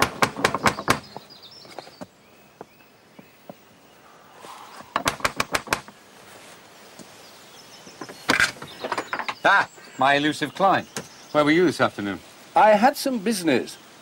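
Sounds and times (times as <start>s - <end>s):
faint bird chirps: 0.5s - 5.0s, 7.1s - 14.0s.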